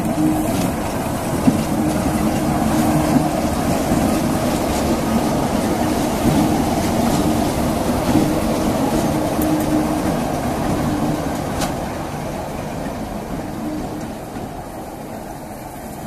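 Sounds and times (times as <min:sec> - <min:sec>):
diesel locomotives droning past: 0:00.0 - 0:16.0.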